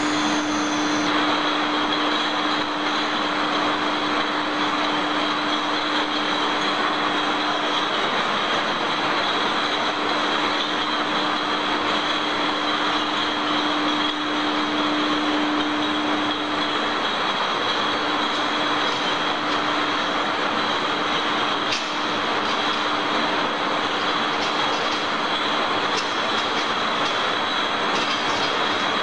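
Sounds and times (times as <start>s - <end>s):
high machine whine: 0.0s - 29.0s
machine hum: 0.0s - 29.0s.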